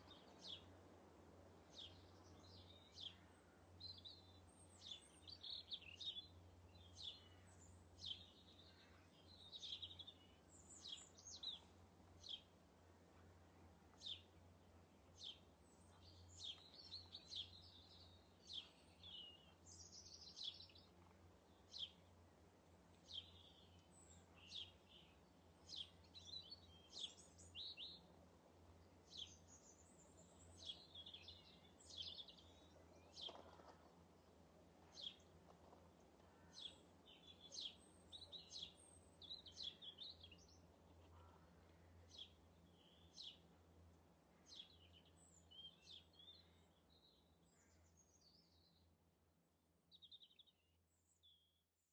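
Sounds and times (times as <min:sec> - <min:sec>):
small birds chirping and twittering: 0:00.0 - 0:00.8, 0:01.6 - 0:49.0, 0:49.9 - 0:51.5.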